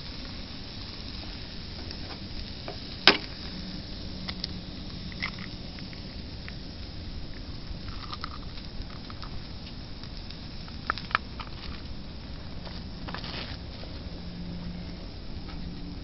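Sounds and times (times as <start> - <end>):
steak sizzling on stove: 0.0 - 16.0
light crackles and ticks: 0.1 - 14.1.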